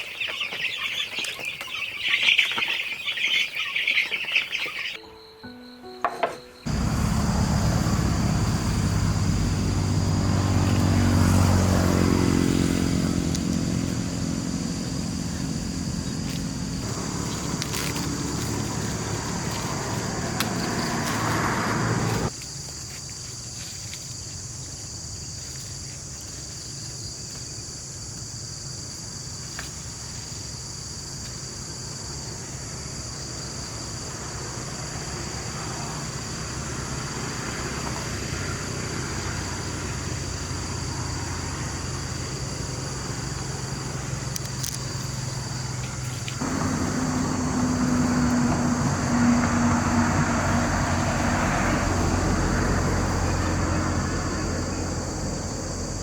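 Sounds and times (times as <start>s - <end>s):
insects buzzing: 0.0s - 6.0s, 6.6s - 56.0s.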